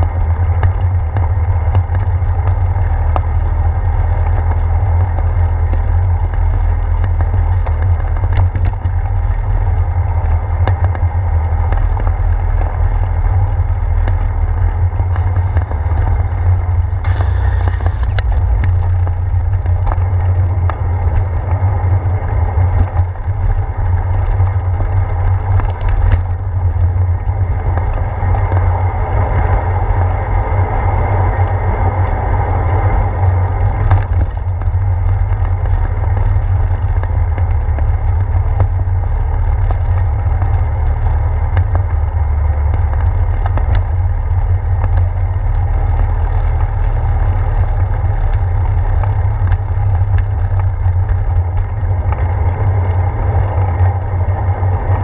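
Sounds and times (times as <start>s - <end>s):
wind and ride vibration rumble: 0.0s - 55.0s.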